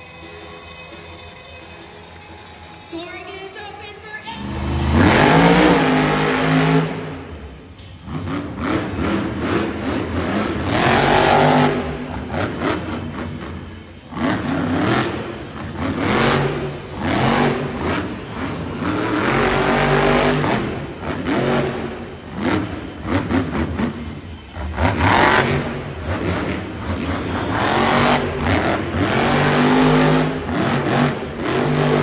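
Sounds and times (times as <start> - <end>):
truck engine revving: 4.4 - 32.0.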